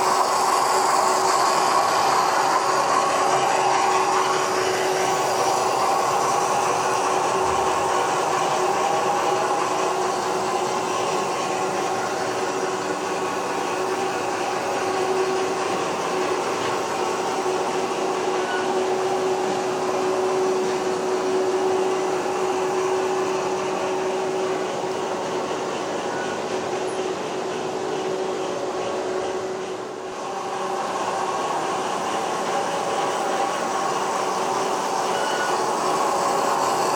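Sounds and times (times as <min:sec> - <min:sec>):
model train motor whine: 0:00.0 - 0:36.9.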